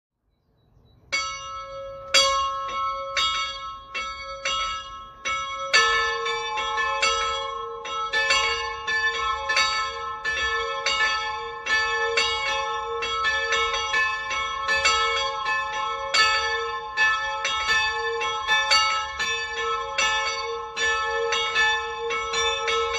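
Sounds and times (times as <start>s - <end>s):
high church bell ringing: 1.0s - 22.9s
lower church bell ringing: 1.0s - 22.9s.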